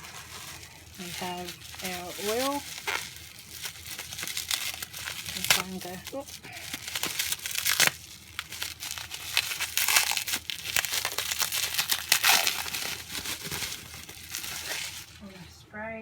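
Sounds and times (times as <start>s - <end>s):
packaging crinkling and rustling: 0.0s - 15.5s.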